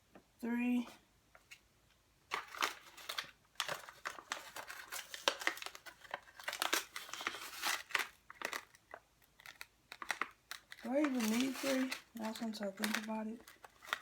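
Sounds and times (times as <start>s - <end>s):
coffee bag crinkling: 2.3s - 14.0s.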